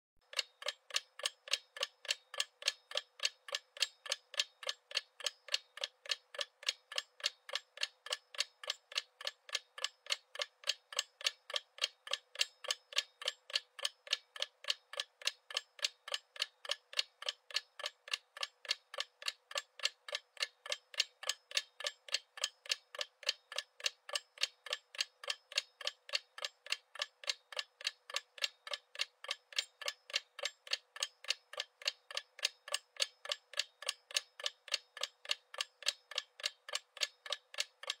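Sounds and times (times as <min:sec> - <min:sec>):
clock ticking rapidly: 0:00.2 - 0:38.0.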